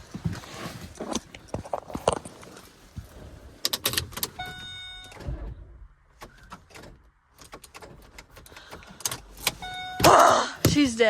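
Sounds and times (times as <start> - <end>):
clicks and knocks inside car: 0.0 - 11.0.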